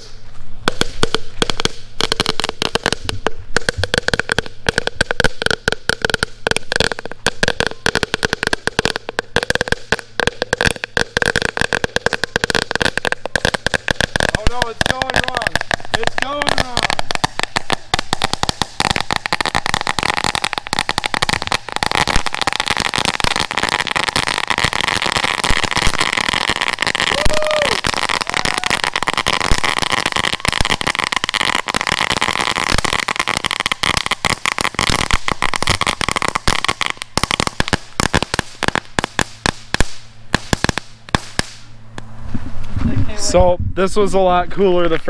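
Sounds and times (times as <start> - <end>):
firework crackling: 0.0 - 43.4.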